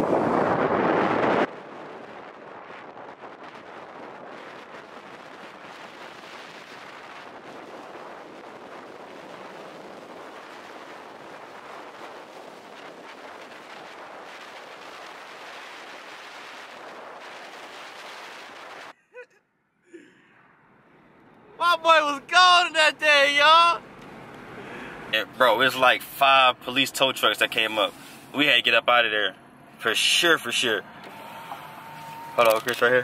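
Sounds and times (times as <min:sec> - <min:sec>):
wind and road noise: 0:00.0 - 0:19.0, 0:20.0 - 0:33.0.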